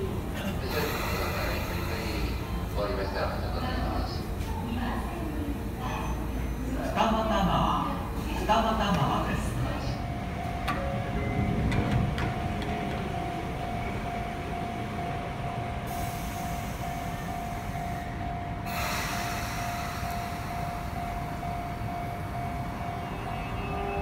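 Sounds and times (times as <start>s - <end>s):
electric train equipment whine: 0.0s - 4.4s, 5.8s - 24.0s.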